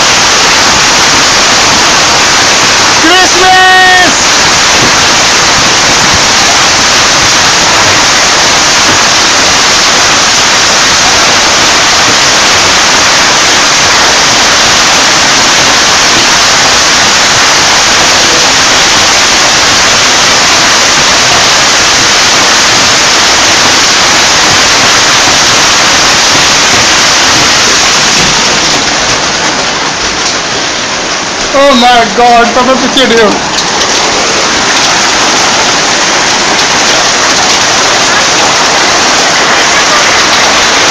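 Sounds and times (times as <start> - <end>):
hail clattering: 0.0 - 40.9.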